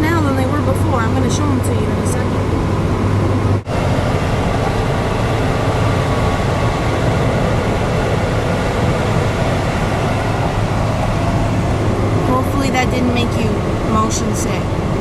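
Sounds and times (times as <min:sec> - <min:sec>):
road and wind noise in car cabin: 0:00.0 - 0:15.0.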